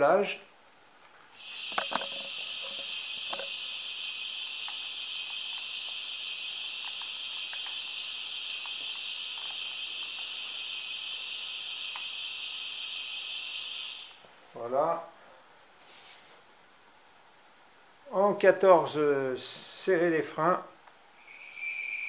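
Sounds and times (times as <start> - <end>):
air hiss from small speaker: 0.0 - 22.0.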